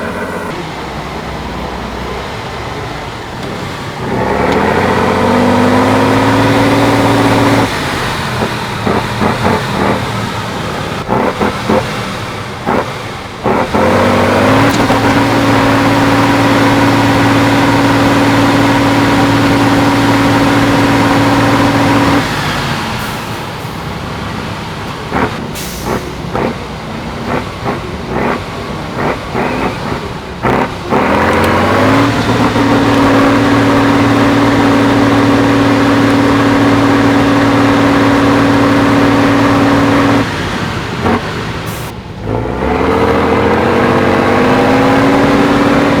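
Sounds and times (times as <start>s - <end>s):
engine clattering knocks: 0.0s - 23.6s, 24.4s - 42.0s
diesel truck engine revving: 0.0s - 46.0s.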